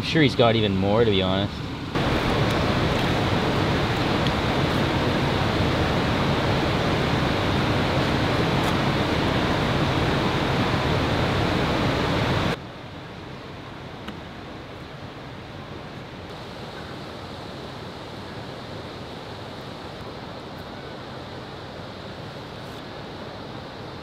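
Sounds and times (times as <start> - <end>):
loud steady rushing noise: 0.0 - 24.0.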